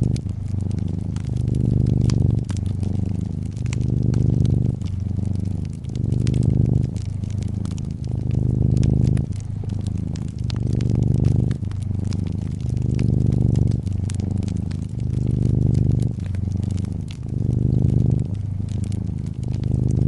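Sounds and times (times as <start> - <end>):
cat purring: 0.0 - 20.0
wood fire crackling and popping: 0.0 - 20.0.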